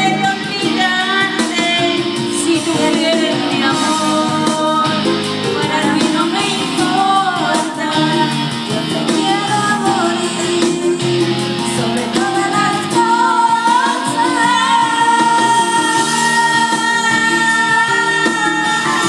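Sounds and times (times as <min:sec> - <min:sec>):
plucked guitar: 0:00.0 - 0:19.0
woman singing: 0:00.0 - 0:19.0.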